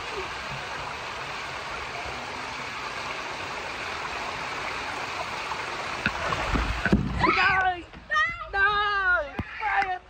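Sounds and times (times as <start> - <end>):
water rushing down slide: 0.0 - 8.3.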